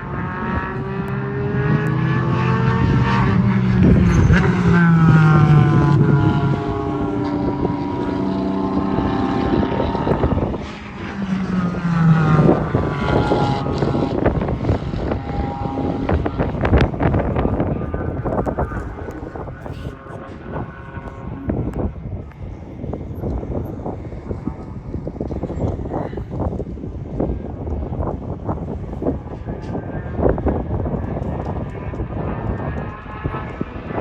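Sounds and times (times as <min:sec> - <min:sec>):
cars passing at speed: 0:00.0 - 0:34.0.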